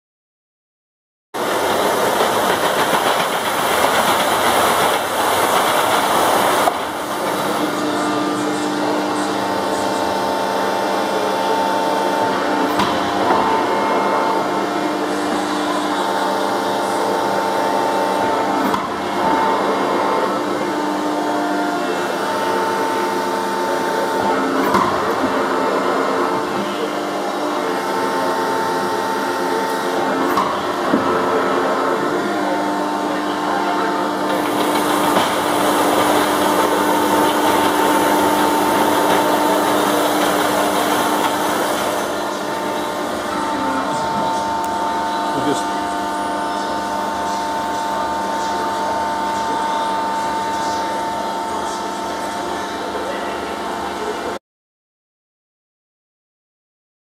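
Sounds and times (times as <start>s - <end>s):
machine hum with whining tones: 1.4s - 54.4s.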